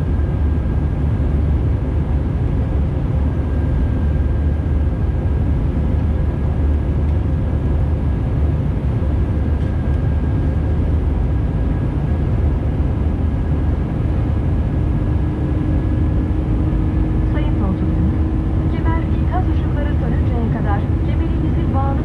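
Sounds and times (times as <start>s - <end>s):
jet engines running: 0.0s - 22.0s
low hum: 0.0s - 22.0s.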